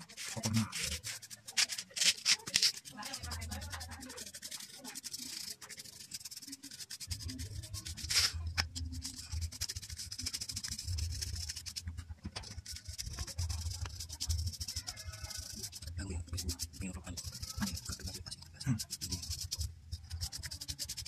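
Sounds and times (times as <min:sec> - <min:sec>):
paintbrush scrubbing plastic fan blades: 0:00.0 - 0:21.0.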